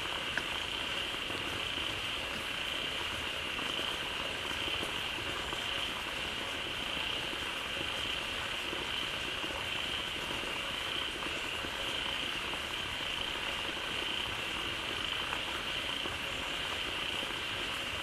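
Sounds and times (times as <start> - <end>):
frogs chorus calling: 0.1 - 18.0.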